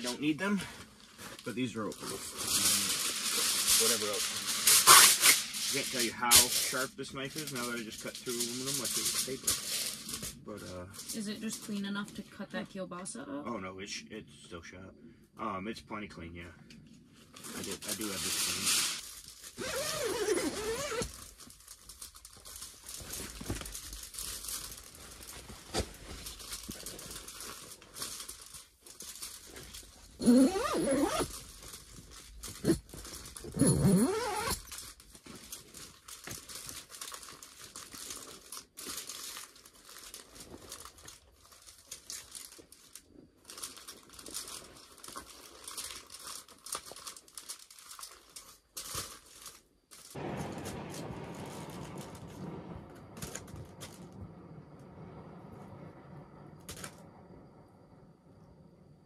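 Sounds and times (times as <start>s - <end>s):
foil crinkling: 0.0s - 12.4s, 17.2s - 52.3s.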